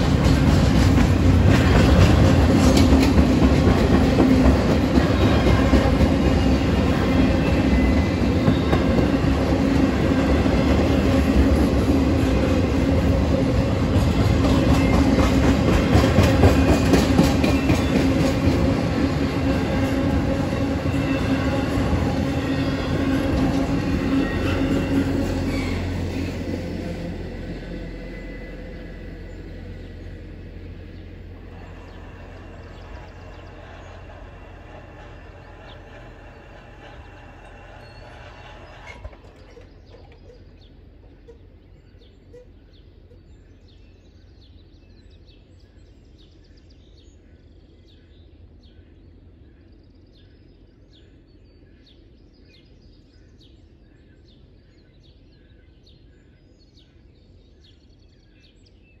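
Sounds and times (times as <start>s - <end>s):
train rumble: 0.0s - 58.8s
birds chirping: 0.0s - 59.0s.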